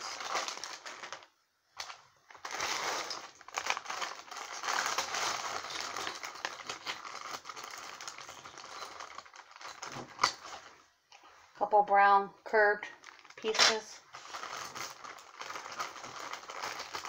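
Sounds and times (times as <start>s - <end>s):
plastic bag crinkling: 0.0s - 11.5s, 12.9s - 17.0s.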